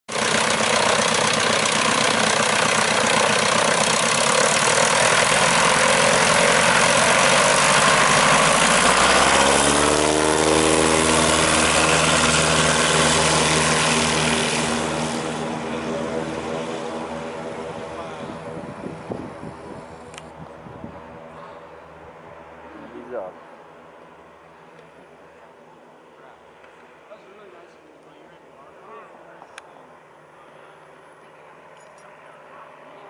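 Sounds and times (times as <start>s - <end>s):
light plane engine and propeller: 0.1s - 33.0s.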